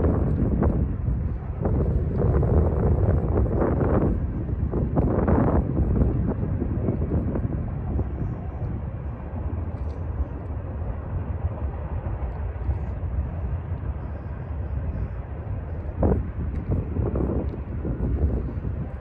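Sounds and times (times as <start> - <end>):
distant freight train rumble: 0.0 - 19.0.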